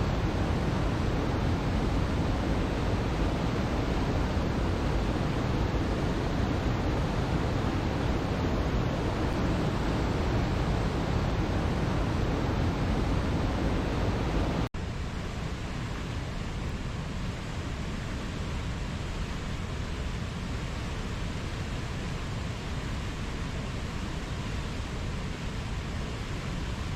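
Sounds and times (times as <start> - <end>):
steady rushing ambient noise: 0.0 - 26.9.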